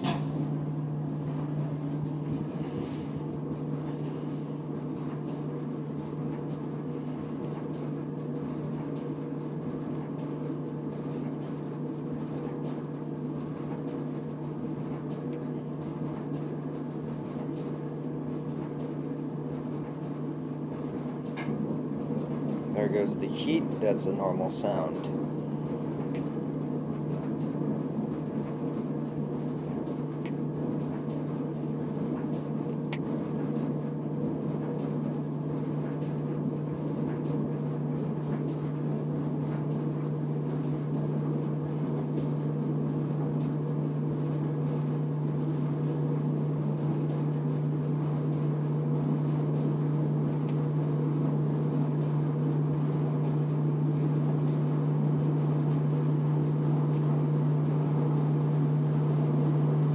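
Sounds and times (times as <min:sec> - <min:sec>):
clothes dryer drum rumbling: 0:00.0 - 0:59.9.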